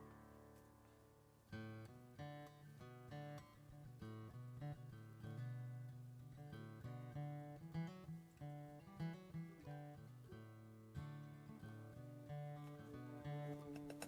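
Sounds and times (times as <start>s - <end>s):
acoustic guitar plucked accompaniment: 0.0s - 14.0s.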